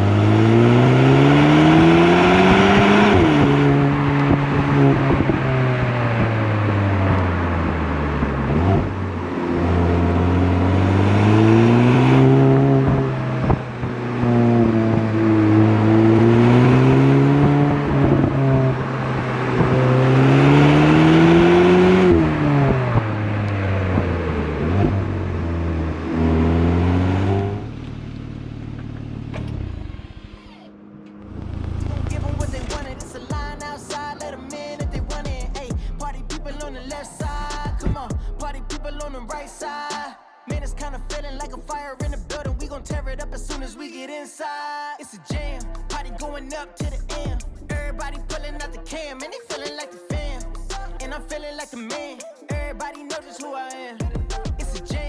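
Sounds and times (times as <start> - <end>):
car engine accelerating: 0.0 - 39.7, 40.5 - 43.8, 45.4 - 49.3.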